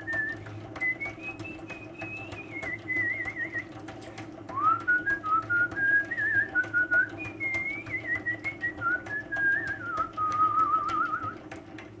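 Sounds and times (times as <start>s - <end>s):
person whistling a tune: 0.0s - 3.8s, 4.5s - 11.4s
honey extractor humming and clicking: 0.0s - 12.0s.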